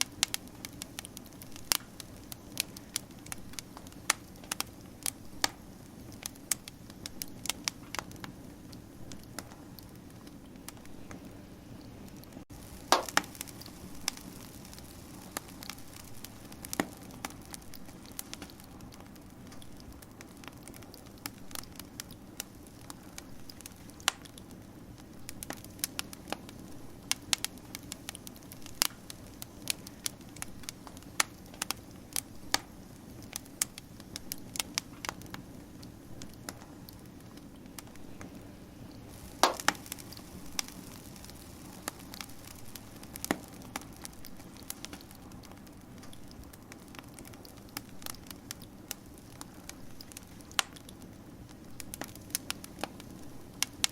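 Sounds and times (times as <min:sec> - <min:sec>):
low hiss of burning: 0:00.0 - 0:53.9
wood fire crackling and popping: 0:00.0 - 0:53.9.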